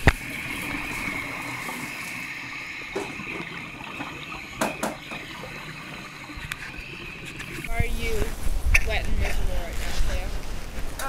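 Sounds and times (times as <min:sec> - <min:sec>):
underwater air bubbling: 0:00.0 - 0:09.8.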